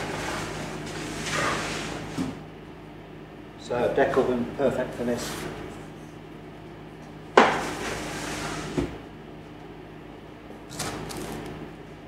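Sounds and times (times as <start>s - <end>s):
low hum of bakery equipment: 0.0s - 12.0s.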